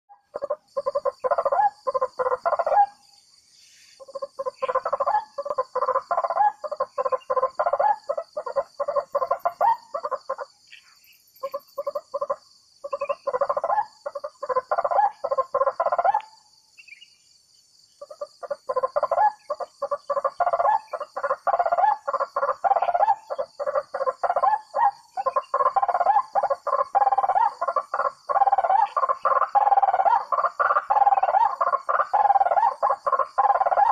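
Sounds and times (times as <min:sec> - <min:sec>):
high hum of insects: 0:00.1 - 0:33.9
whistling ducks chattering: 0:00.3 - 0:17.2, 0:18.0 - 0:33.9.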